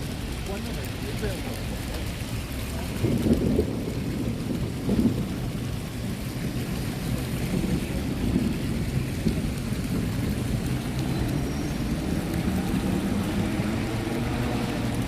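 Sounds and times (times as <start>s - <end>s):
city traffic rumble: 0.0s - 15.0s
steady rain: 0.0s - 15.0s.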